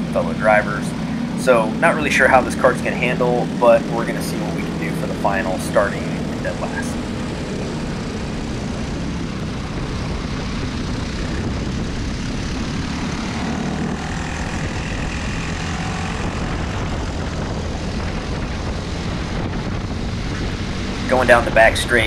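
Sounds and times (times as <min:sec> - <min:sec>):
kart engine running: 0:00.0 - 0:22.0.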